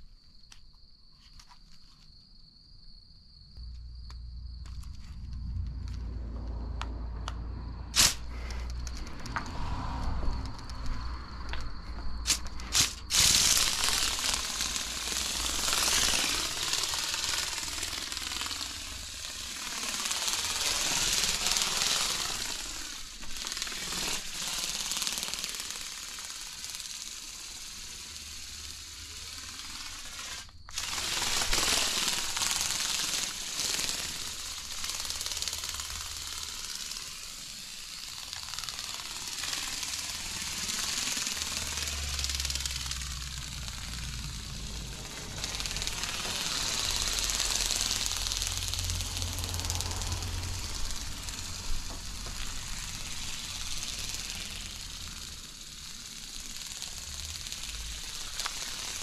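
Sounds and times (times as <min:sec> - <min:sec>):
toy bird buzzing clatter: 0:03.6 - 0:59.0.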